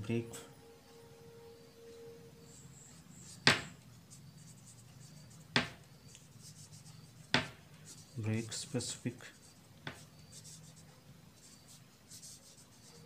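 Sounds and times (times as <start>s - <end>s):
marker writing on paper: 2.4s - 13.0s.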